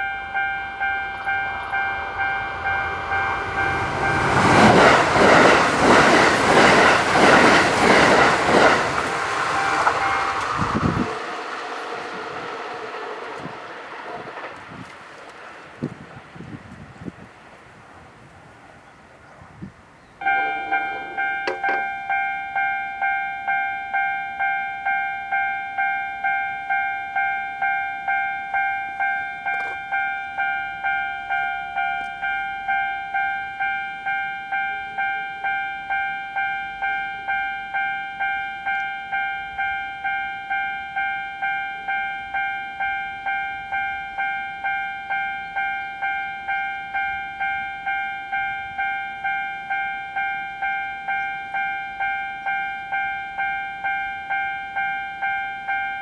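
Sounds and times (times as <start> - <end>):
level crossing warning bell: 0.0 - 13.6, 20.2 - 56.0.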